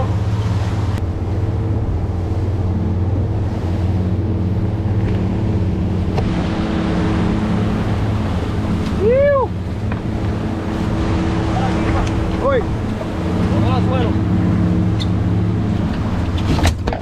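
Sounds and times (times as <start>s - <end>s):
outboard motors running: 0.0s - 17.0s
wake rushing: 0.0s - 17.0s.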